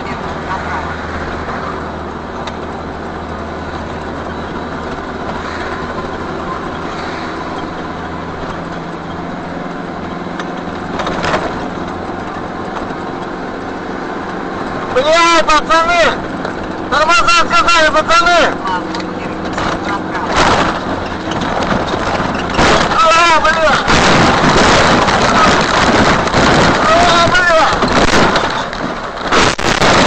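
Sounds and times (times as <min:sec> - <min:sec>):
truck engine drone: 0:00.0 - 0:30.0.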